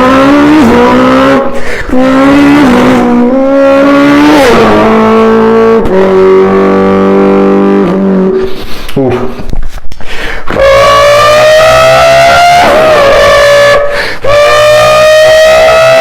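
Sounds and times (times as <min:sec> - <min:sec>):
man imitating car engine: 0:00.0 - 0:09.4, 0:10.5 - 0:16.0.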